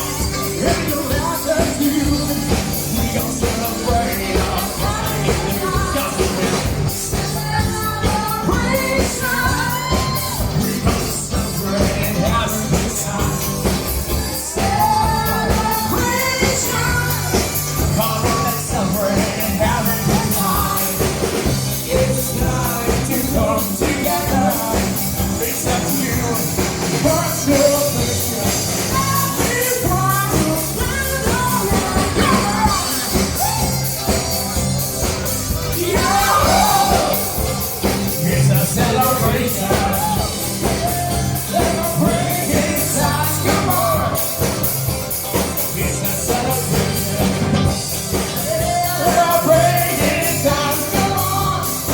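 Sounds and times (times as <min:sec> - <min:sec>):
bass line: 0:00.0 - 0:51.9
drum beat: 0:00.0 - 0:51.9
person singing: 0:00.0 - 0:51.9.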